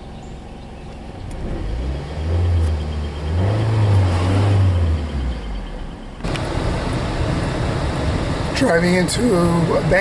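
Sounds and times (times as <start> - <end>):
car engine drone: 0.0 - 10.0
road noise inside car: 0.0 - 10.0.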